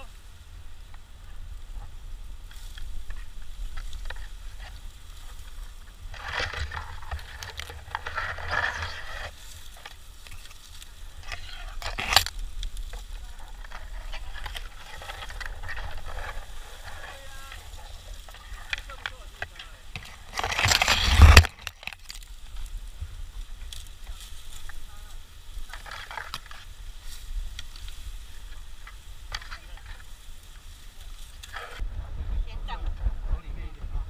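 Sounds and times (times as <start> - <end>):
dry grass rustling and crackling: 0.0 - 33.7.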